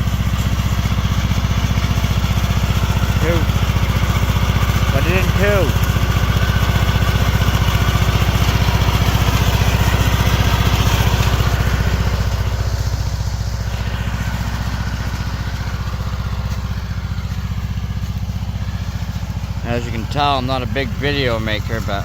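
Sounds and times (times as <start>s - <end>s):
riding lawn mower engine running: 0.0s - 22.0s.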